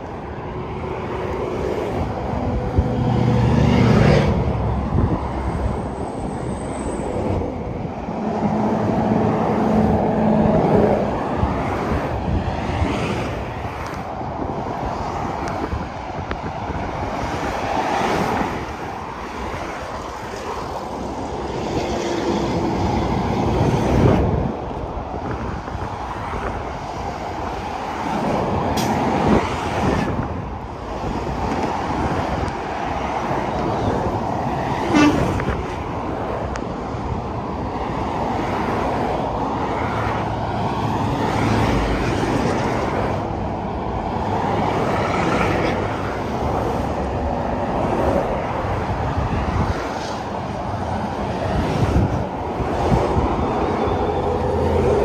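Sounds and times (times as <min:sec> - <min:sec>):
trucks and cars passing at speed: 0:00.0 - 0:55.0.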